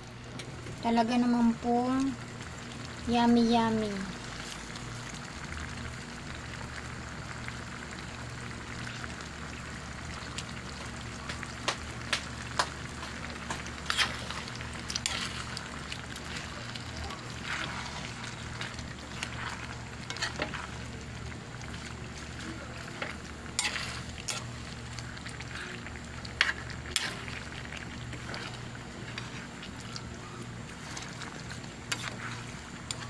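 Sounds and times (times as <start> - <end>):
food sizzling in a pan: 0.0 - 33.0
low steady hum: 0.0 - 33.0.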